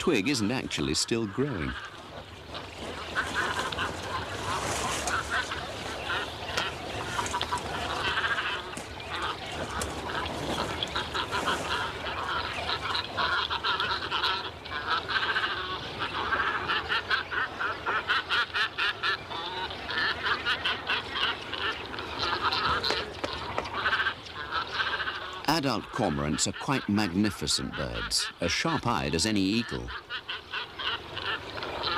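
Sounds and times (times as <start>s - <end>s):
cormorants rattling calls: 0.0s - 31.9s.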